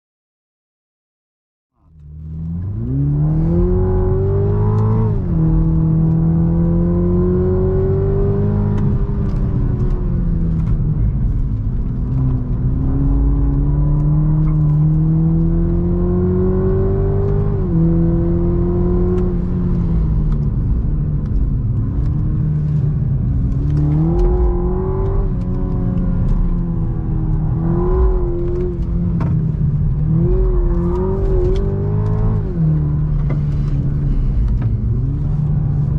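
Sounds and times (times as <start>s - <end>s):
car engine under load: 1.8s - 35.9s.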